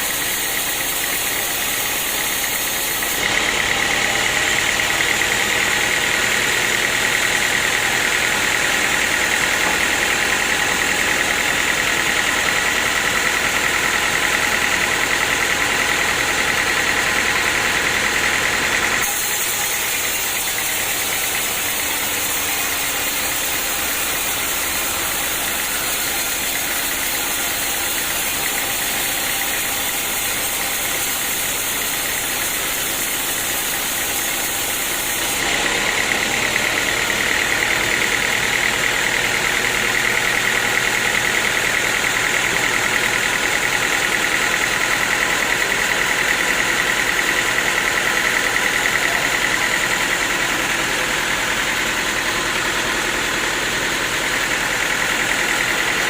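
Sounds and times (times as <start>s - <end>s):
sawmill machinery engine running: 0.0s - 56.0s.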